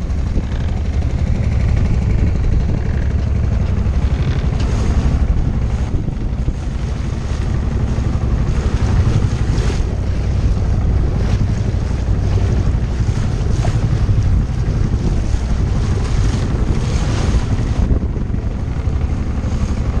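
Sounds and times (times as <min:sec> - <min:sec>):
water splashing against boat hull: 0:00.0 - 0:20.0
wind buffeting microphone: 0:00.0 - 0:20.0.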